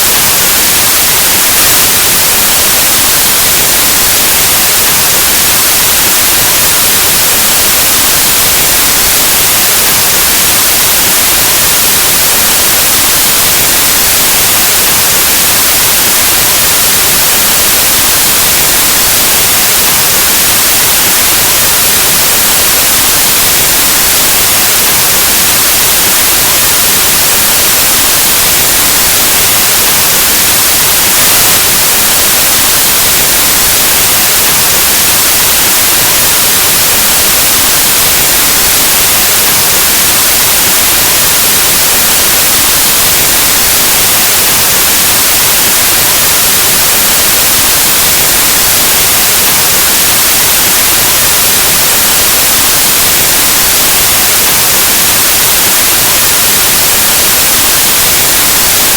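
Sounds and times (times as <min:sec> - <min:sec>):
loud white noise hiss: 0:00.0 - 0:58.9.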